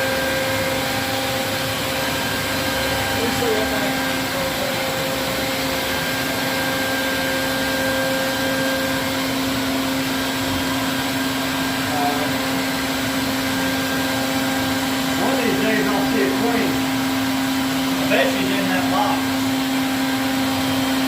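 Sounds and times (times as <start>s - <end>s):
small motor humming: 0.0s - 21.0s.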